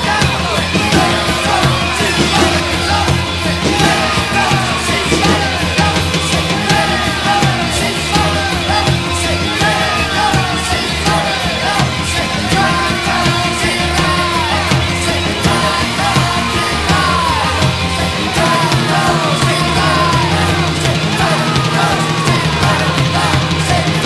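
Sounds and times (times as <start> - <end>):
post-punk rock music: 0.0 - 24.0.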